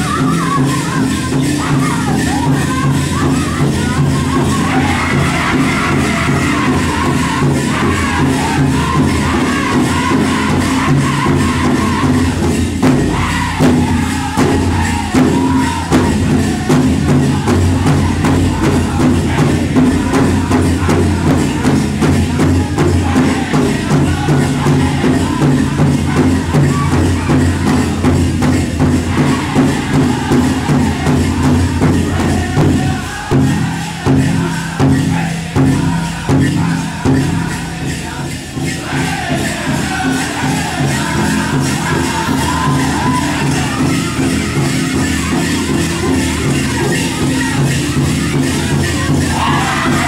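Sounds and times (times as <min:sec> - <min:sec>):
group singing: 0:00.0 - 0:50.0
jingling bells: 0:00.0 - 0:50.0
pounding drum beat: 0:00.0 - 0:50.0.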